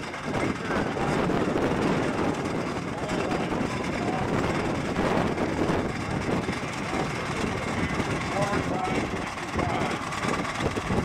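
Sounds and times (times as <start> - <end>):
tractor engines running: 0.0 - 11.0.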